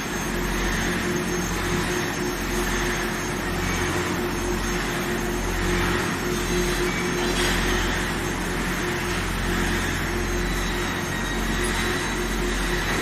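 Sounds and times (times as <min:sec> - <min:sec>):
faint high whine: 0:00.0 - 0:13.0
industrial machine drone: 0:00.0 - 0:13.0.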